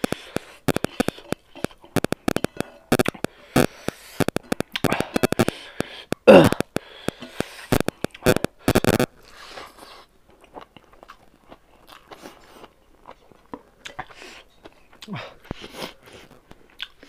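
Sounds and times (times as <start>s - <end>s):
wet chewing and mouth smacks: 0.0s - 8.6s, 9.3s - 17.0s.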